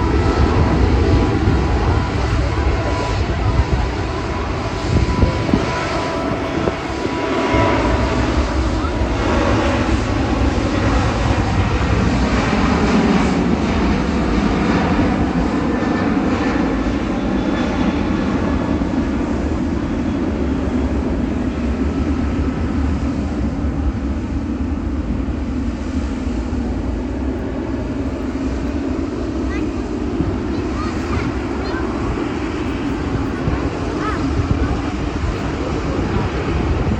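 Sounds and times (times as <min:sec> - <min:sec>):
jet engines taxiing: 0:00.0 - 0:36.9.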